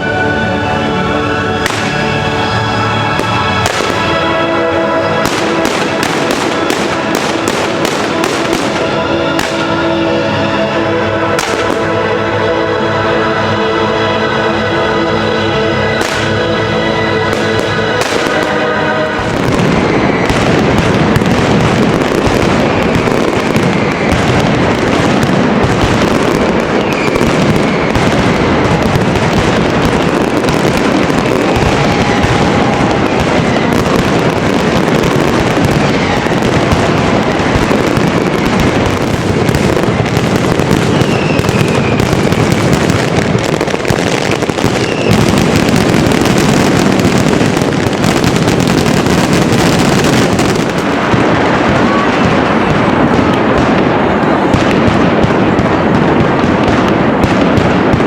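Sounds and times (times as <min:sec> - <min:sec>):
music playing: 0:00.0 - 0:56.4
fireworks bangs and crackles: 0:00.0 - 0:58.0
fireworks whistles: 0:01.6 - 0:10.4, 0:15.8 - 0:58.0.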